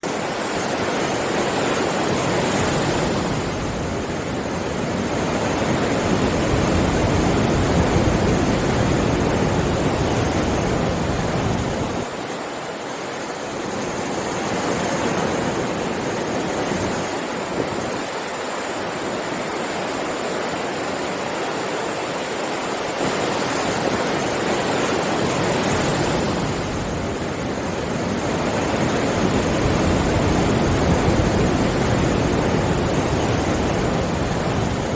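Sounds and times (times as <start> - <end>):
sea waves washing onto shore: 0.0 - 34.9.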